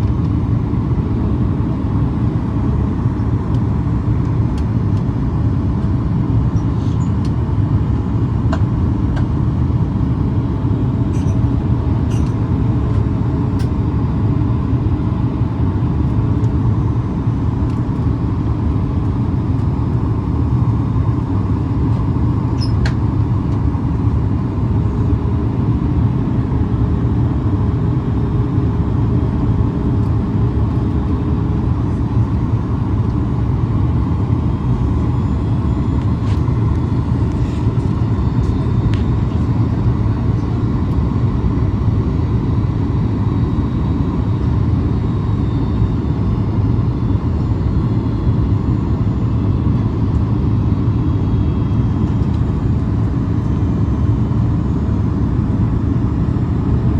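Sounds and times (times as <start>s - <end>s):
aircraft cabin rumble: 0.0s - 56.9s.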